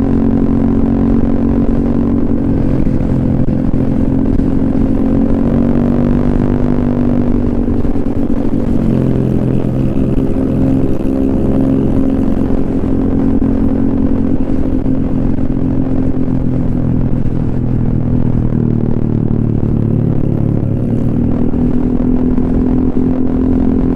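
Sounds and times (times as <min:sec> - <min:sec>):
scooter engine riding: 0:00.0 - 0:23.9.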